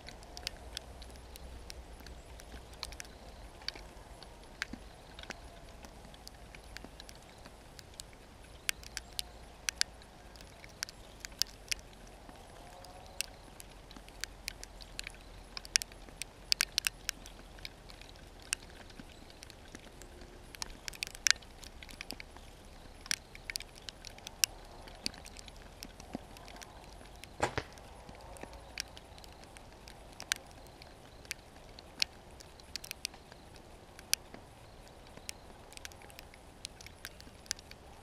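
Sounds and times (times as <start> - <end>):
faint steady hiss: 0.0 - 38.0
sharp clicks and ticks: 0.0 - 38.0.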